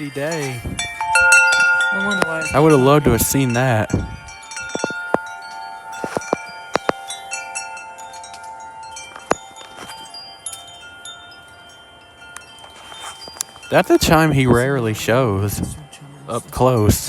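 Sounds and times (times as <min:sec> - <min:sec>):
gusty wind: 0:00.0 - 0:15.9
metal wind chimes ringing: 0:00.0 - 0:17.0.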